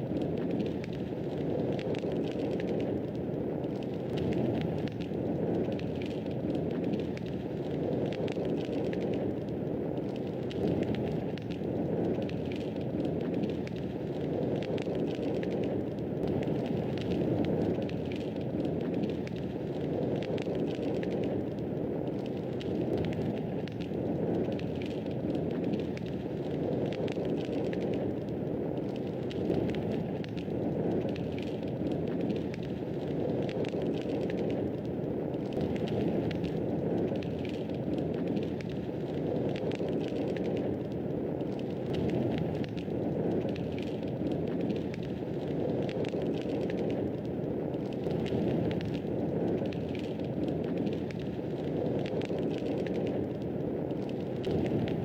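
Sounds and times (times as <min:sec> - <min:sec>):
fire crackling and popping: 0:00.0 - 0:55.0
wood fire burning: 0:00.0 - 0:55.0.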